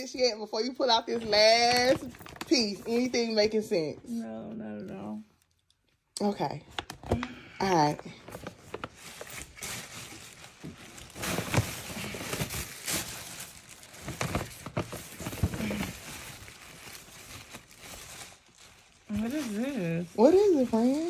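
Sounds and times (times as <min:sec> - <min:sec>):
paper gift bag rustling: 0:00.0 - 0:04.0, 0:07.7 - 0:21.0.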